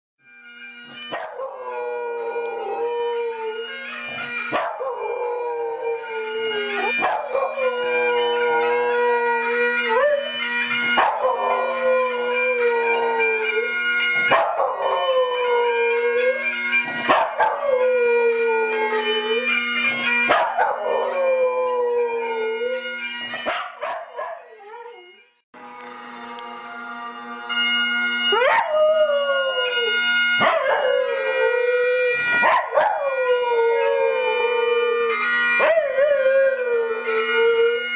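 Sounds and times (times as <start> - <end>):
bagpipe music: 0.2 - 37.9
dog howling: 1.1 - 25.2, 28.3 - 37.9.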